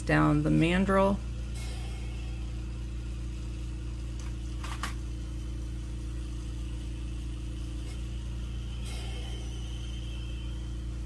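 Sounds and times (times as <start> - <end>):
torch flame and spinner hum: 0.0 - 11.0.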